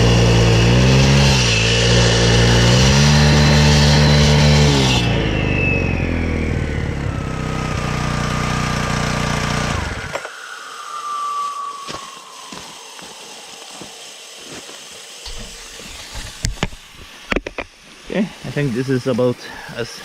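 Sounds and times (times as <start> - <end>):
concrete saw engine running: 0.0 - 10.3, 12.2 - 18.9
blade whine spinning down: 0.0 - 18.9.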